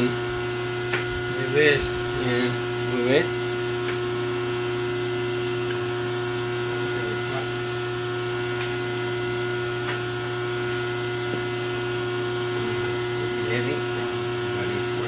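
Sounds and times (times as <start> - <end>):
drill press electric hum: 0.0 - 15.0.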